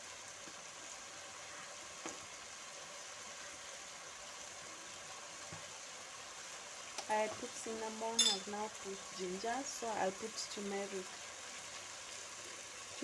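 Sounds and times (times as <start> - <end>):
meat frying sizzle: 0.0 - 13.0.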